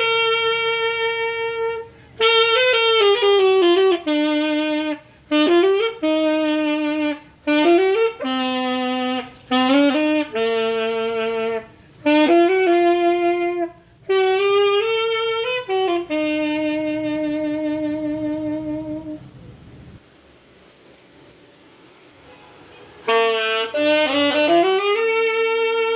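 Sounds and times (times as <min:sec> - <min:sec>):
solo saxophone melody: 0:00.0 - 0:20.0, 0:22.6 - 0:25.9.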